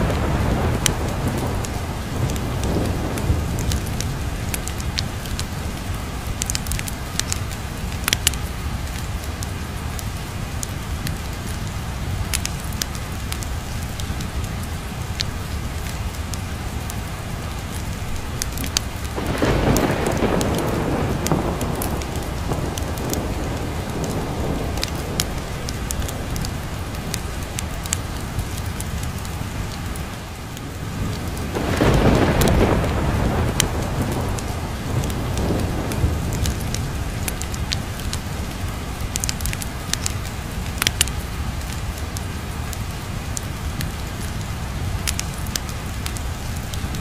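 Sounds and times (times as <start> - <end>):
low thunder rumble: 0.0 - 42.2
steady rain: 0.0 - 47.0.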